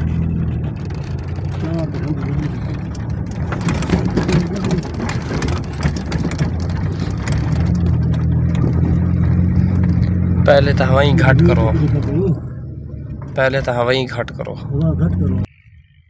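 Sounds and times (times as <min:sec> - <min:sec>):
rattles and knocks: 0:00.0 - 0:15.5
vehicle engine and road drone: 0:00.0 - 0:16.0.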